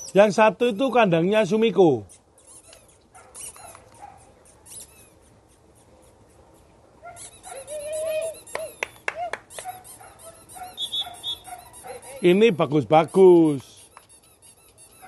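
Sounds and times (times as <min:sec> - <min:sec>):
puppies whining and yelping: 0:00.0 - 0:01.2, 0:02.0 - 0:12.4, 0:13.1 - 0:15.0
birds chirping: 0:00.0 - 0:05.1, 0:06.2 - 0:15.0.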